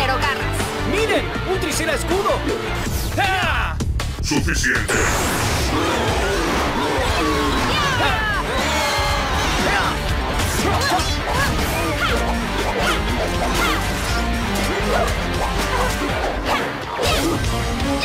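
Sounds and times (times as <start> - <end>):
action music: 0.0 - 18.0.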